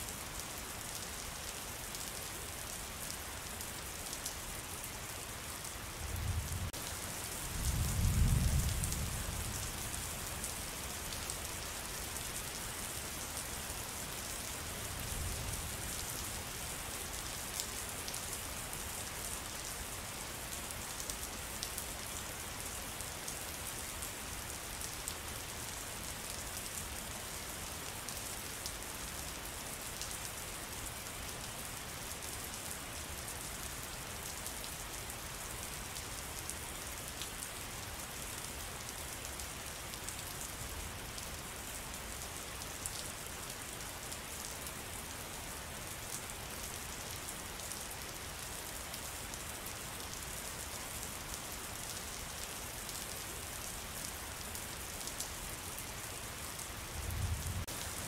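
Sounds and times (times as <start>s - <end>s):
steady rain patter: 0.0s - 58.0s.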